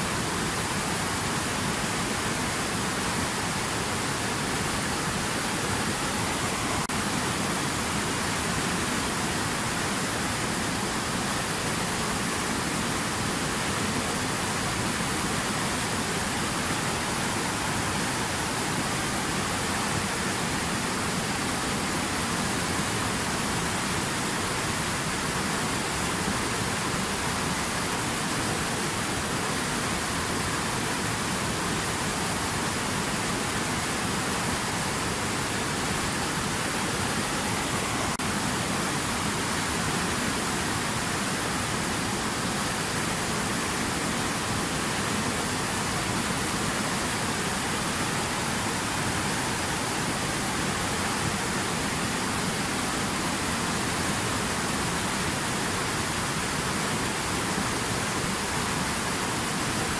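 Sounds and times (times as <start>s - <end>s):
stream rapids rushing: 0.0s - 59.9s.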